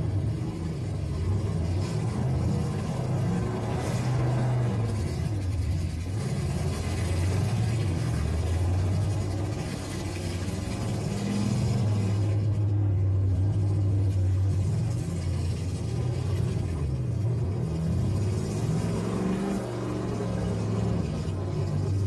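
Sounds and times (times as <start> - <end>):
pickup truck engines revving: 0.0 - 22.0.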